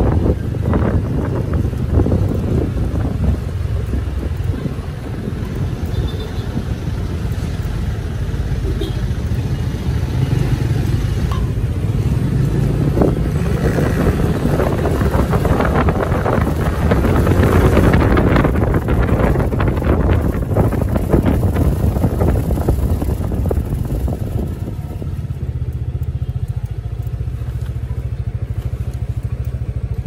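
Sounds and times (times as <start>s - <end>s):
wind buffeting microphone: 0.0s - 25.8s
motor vehicle rumble: 0.0s - 30.0s.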